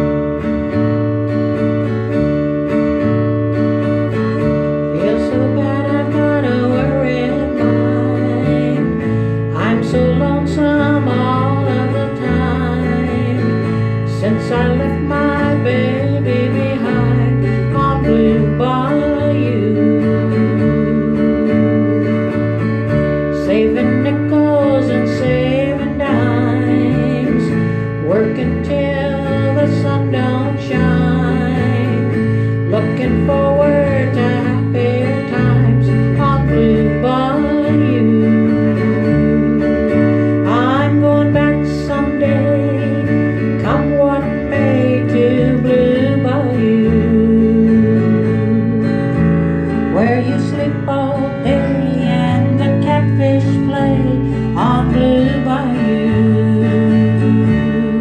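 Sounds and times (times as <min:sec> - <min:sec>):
bass line: 0:00.0 - 0:58.0
country band playing: 0:00.0 - 0:58.0
strummed guitar chords: 0:00.0 - 0:58.0.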